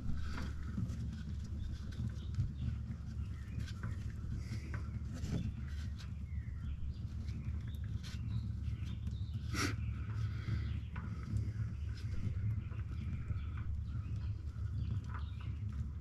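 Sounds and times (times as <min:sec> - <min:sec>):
low steady hum: 0:00.0 - 0:16.0
oil filter clicking and scraping: 0:00.0 - 0:16.0.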